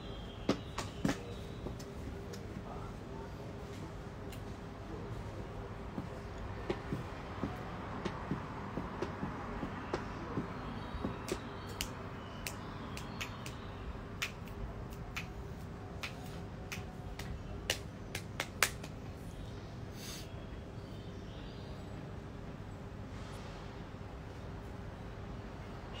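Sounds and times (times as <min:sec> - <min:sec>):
city background hum: 0:00.0 - 0:26.0.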